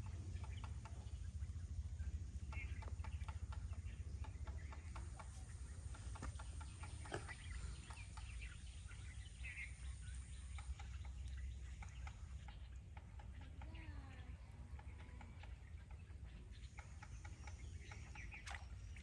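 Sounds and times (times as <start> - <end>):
faint bird calls: 0.0 - 19.0
low steady rumble: 0.0 - 19.0.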